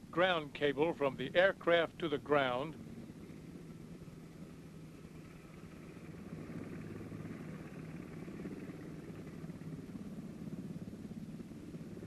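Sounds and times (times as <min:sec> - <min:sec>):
engine running rumble: 0:00.0 - 0:12.0.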